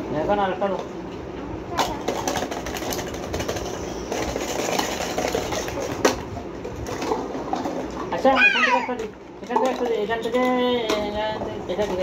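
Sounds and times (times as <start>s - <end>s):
plastic cups clattering on tiles: 1.8s - 12.0s.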